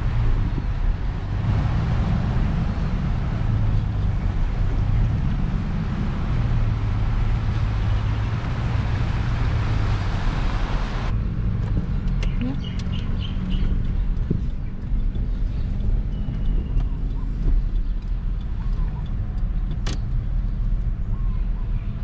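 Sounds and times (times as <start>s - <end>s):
wind noise: 0.0s - 17.8s
car driving rumble: 0.0s - 22.0s.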